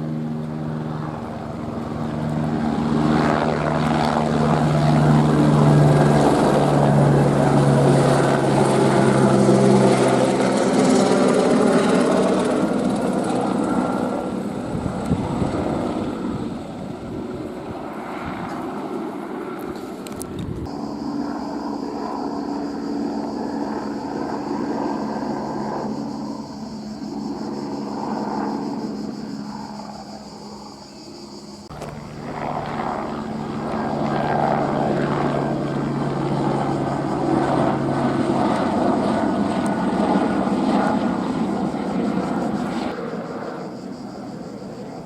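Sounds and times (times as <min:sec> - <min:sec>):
helicopter rotor drone: 0:00.0 - 0:45.0.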